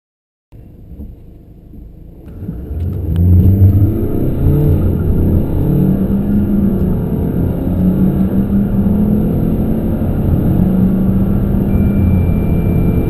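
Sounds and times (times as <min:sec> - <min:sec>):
car engine accelerating hard: 0:02.2 - 0:13.0.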